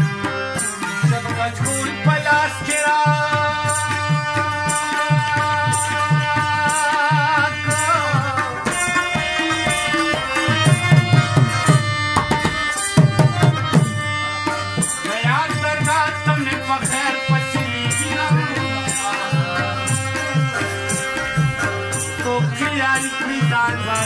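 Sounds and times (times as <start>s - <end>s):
hand drum beat: 0.0s - 24.0s
harmonium playing: 0.0s - 24.0s
man singing: 0.0s - 24.0s.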